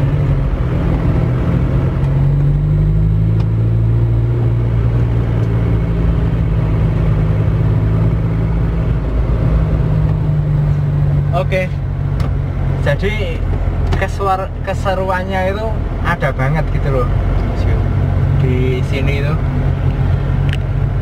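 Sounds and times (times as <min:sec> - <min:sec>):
car engine droning: 0:00.0 - 0:21.0
road noise: 0:00.0 - 0:21.0.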